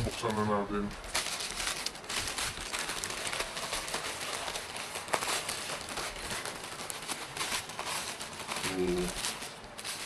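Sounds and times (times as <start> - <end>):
plastic pouch crinkling: 0.0 - 10.0.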